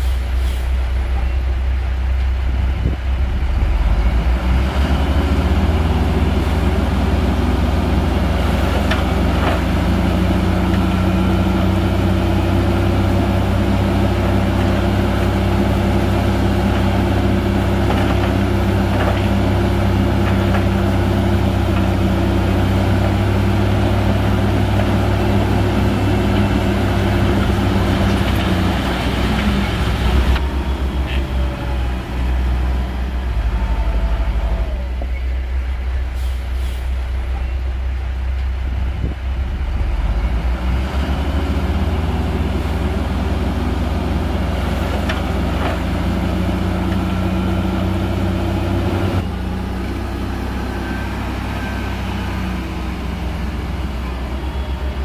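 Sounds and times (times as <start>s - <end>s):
heavy diesel engines running: 0.0s - 55.0s.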